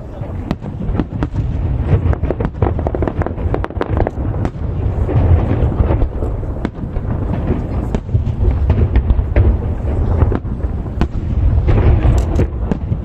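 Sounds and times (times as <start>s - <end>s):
fireworks booming: 0.0s - 13.0s
sharp fireworks cracks: 0.0s - 13.0s.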